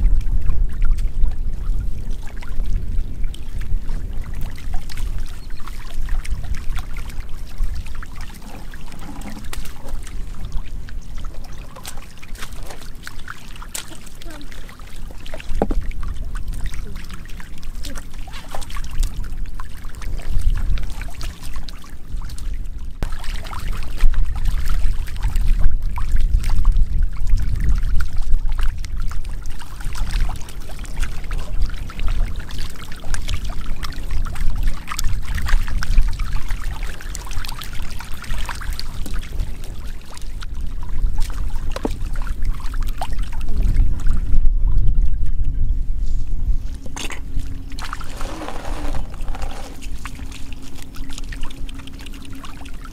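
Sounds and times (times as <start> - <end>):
water trickling: 0.0 - 44.0, 46.9 - 52.9
fish splashing in shallow water: 0.0 - 44.4, 46.5 - 52.9.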